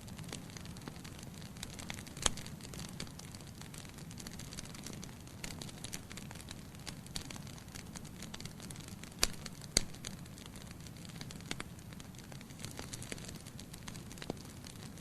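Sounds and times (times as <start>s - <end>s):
flames burning: 0.0s - 15.0s
logs crackling in fireplace: 0.0s - 15.0s
loud pops from fire: 0.0s - 15.0s.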